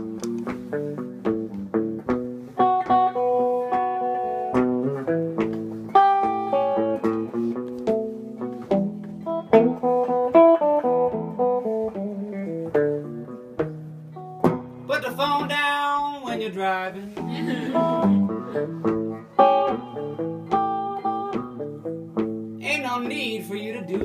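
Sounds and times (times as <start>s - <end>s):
blues guitar playing: 0.0s - 24.0s.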